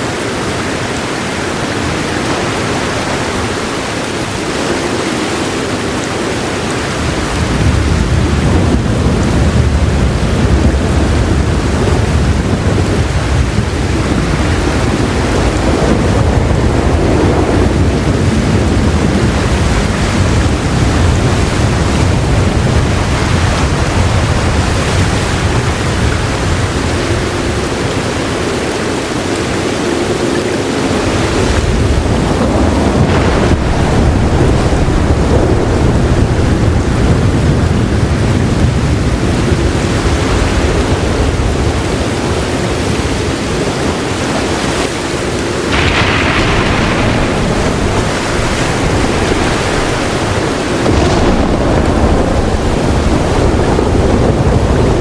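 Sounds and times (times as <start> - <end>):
heavy rain hissing: 0.0 - 55.0
low thunder rumbling: 0.0 - 55.0.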